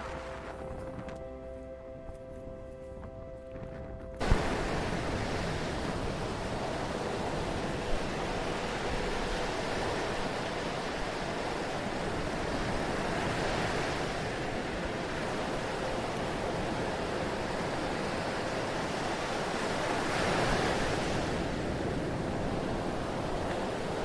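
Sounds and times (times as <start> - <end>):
ocean waves washing onto shore: 3.6 - 24.0.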